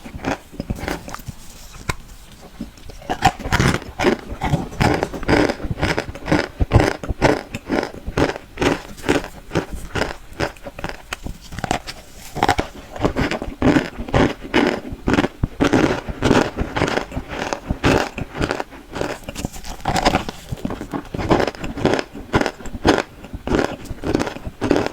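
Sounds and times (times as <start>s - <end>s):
crunching and chewing: 0.0s - 24.9s.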